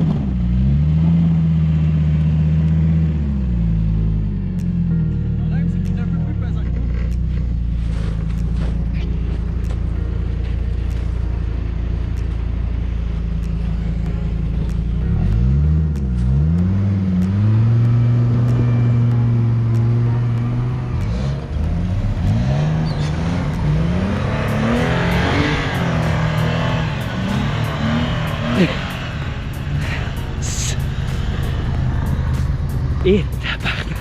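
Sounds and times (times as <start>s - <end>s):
engine revving: 0.0s - 34.0s.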